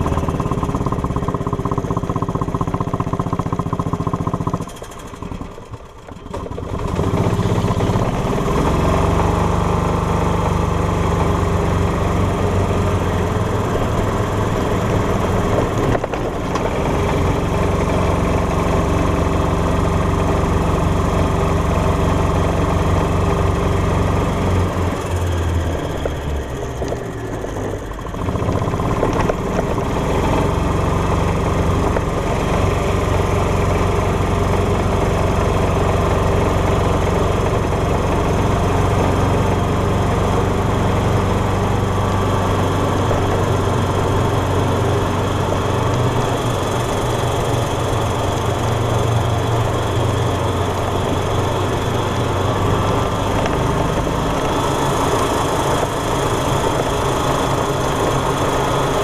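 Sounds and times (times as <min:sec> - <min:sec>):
golf cart engine running: 0:00.0 - 0:59.0.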